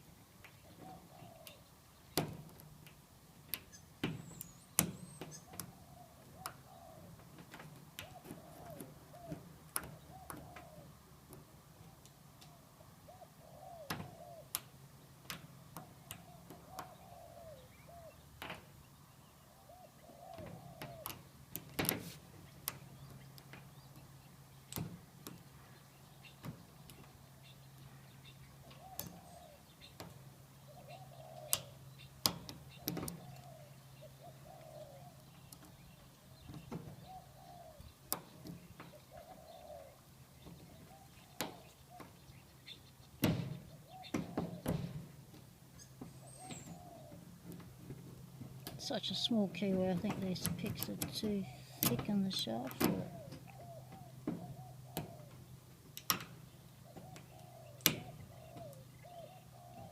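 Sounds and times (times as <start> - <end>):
bird calling: 0.5 - 1.8, 3.6 - 7.2, 8.0 - 11.0, 11.8 - 14.8, 15.8 - 21.4, 25.4 - 44.9, 45.7 - 47.6, 48.6 - 59.9.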